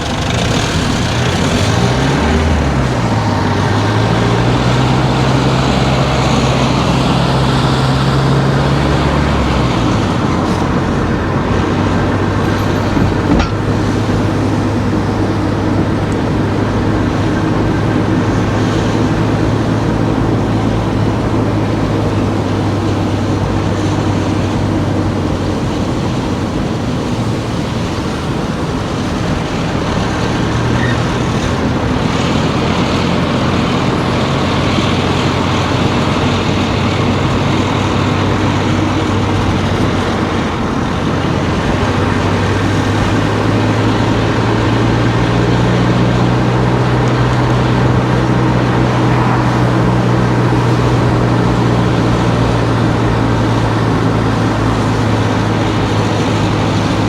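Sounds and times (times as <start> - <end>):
car engine hum: 0.0 - 57.0
road noise: 0.0 - 57.0.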